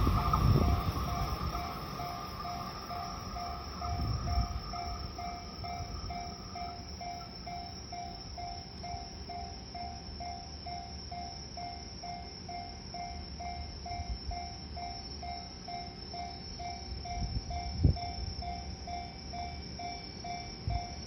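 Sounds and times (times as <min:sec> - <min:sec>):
low rumble of train: 0:00.0 - 0:21.0.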